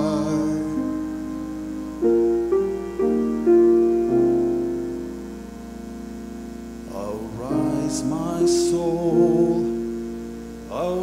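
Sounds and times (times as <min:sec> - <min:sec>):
piano hymn accompaniment: 0:00.0 - 0:11.0.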